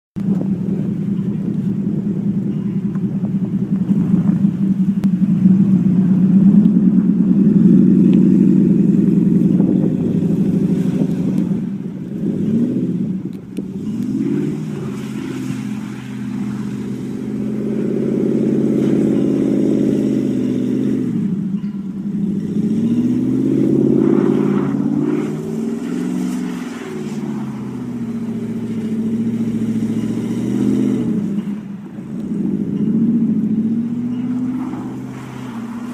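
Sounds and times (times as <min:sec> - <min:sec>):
truck engine revving: 0:00.2 - 0:35.9.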